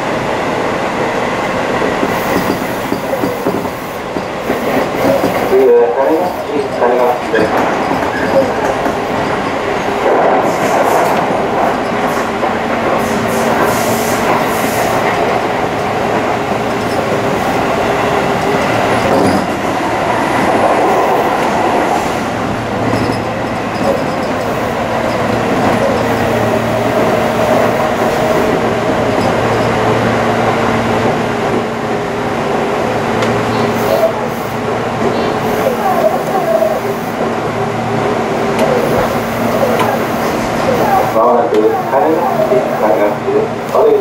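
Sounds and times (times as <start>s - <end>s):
train rolling on track: 0.0s - 44.0s.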